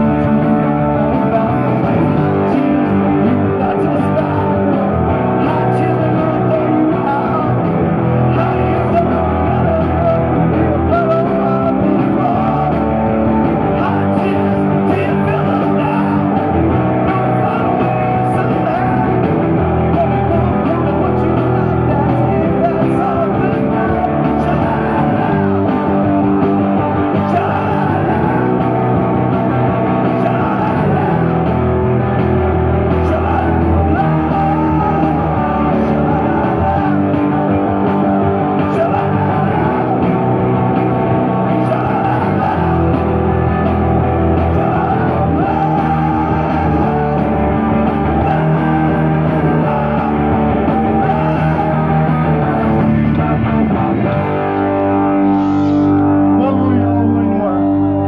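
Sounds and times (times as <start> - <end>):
man singing: 0.0 - 54.4, 55.3 - 58.0
drum kit: 0.0 - 56.4
electric bass: 0.0 - 58.0
electric guitars: 0.0 - 58.0.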